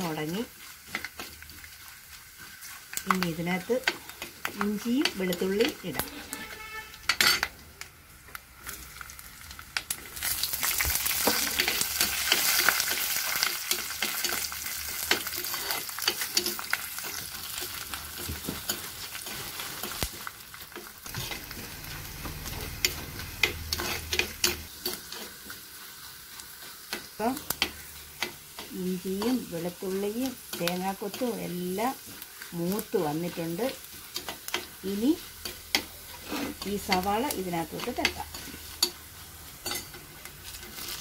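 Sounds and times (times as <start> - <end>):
oil sizzling in a pot: 0.0 - 41.0.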